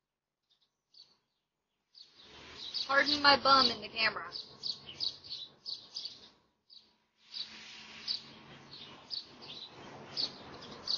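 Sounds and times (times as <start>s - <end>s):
small birds chirping: 0.3s - 10.9s
faint outdoor hiss: 0.4s - 10.9s.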